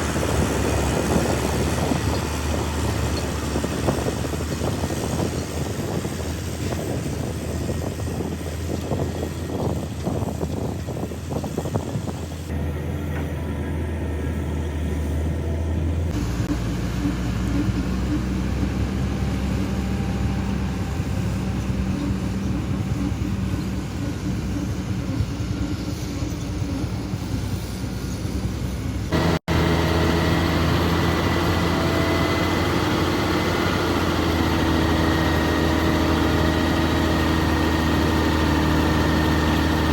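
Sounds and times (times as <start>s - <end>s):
heavy diesel engines droning: 0.0s - 39.9s.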